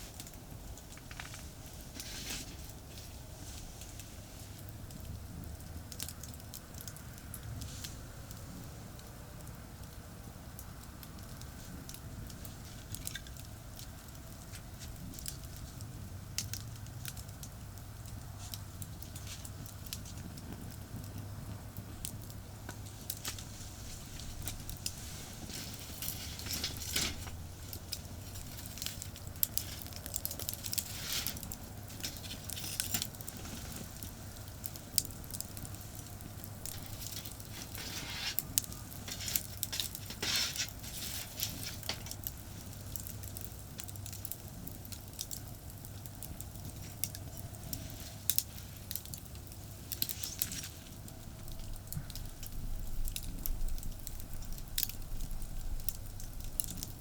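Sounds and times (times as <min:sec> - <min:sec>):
campfire crackling and popping: 0:00.0 - 0:57.0
low rumble of traffic: 0:00.0 - 0:57.0.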